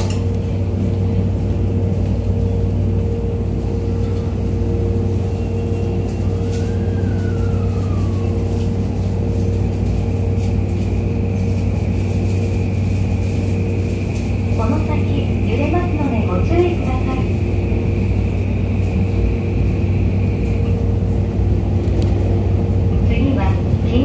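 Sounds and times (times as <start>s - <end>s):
train car hum: 0.0s - 24.0s.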